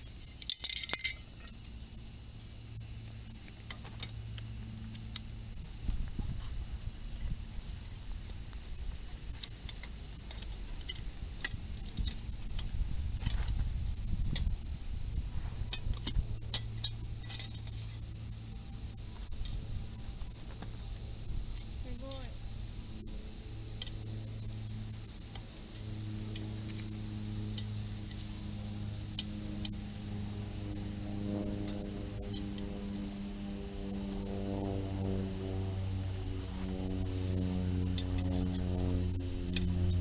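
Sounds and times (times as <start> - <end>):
insects chirring: 0.0 - 40.0
low steady hum: 0.0 - 40.0.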